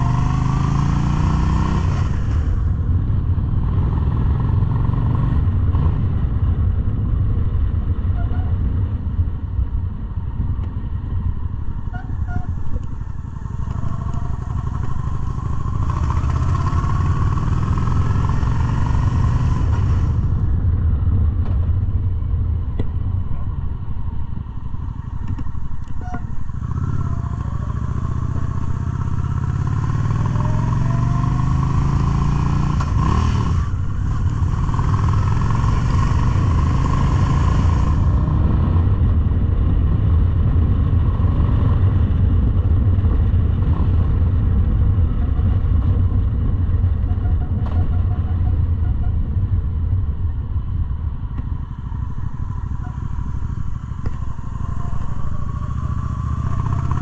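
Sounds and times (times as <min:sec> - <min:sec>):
motorcycle engine accelerating: 0:00.0 - 0:07.5, 0:12.5 - 0:49.0, 0:50.1 - 0:57.0
wind rushing over microphone: 0:00.0 - 0:57.0.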